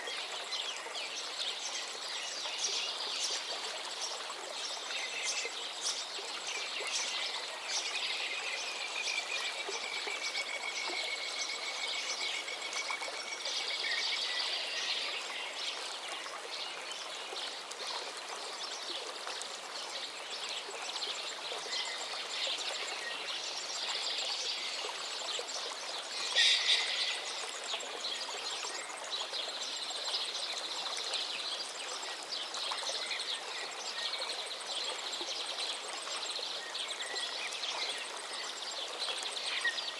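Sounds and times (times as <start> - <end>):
flowing stream: 0.0 - 39.9
songbirds singing and chirping: 0.0 - 39.9.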